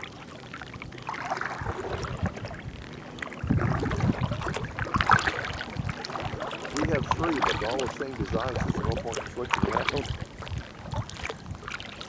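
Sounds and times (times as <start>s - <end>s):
water lapping against kayak hull: 0.0s - 12.0s
wind rumbling on microphone: 1.0s - 12.0s.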